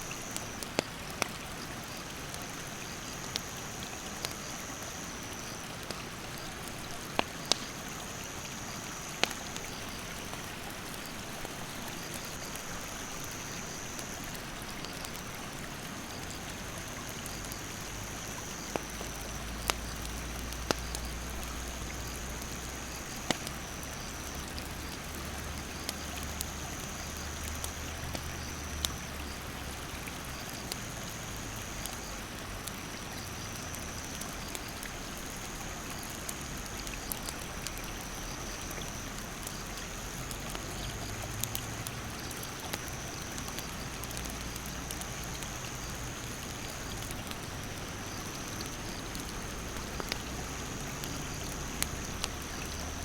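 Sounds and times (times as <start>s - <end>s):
campfire crackling: 0.0s - 53.0s
rushing mountain stream: 0.0s - 53.0s.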